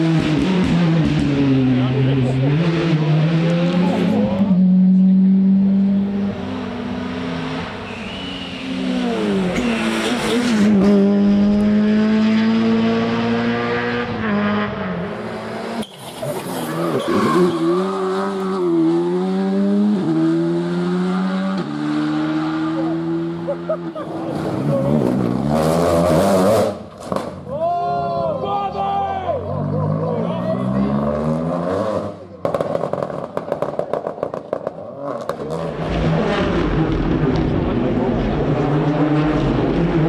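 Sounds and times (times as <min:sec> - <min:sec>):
rally car engines revving: 0:00.0 - 0:27.5, 0:29.0 - 0:40.0.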